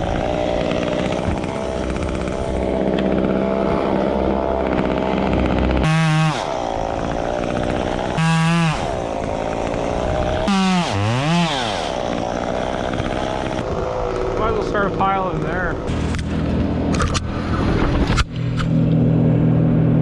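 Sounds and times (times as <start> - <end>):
small gasoline engine revving: 0.0 - 20.0.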